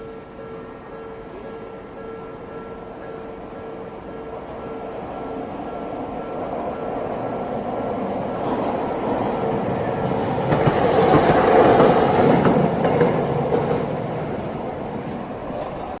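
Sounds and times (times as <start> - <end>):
tram rumbling past: 0.0 - 16.0.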